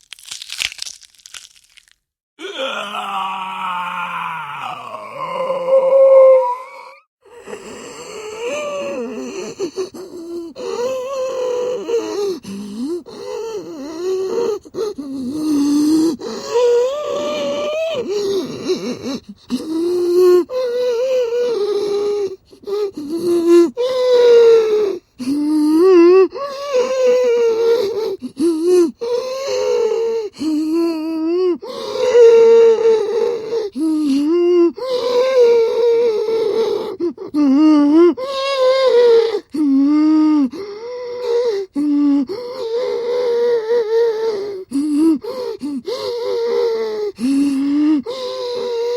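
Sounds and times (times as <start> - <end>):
gasping breaths: 2.4 - 48.9.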